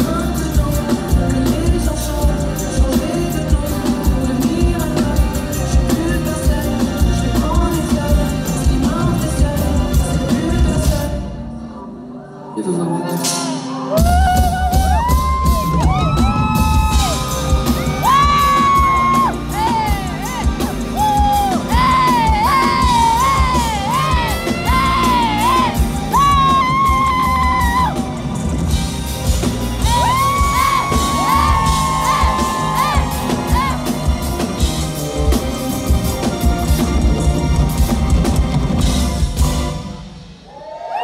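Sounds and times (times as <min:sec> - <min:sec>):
live pop song through loudspeakers: 0:00.0 - 0:41.0.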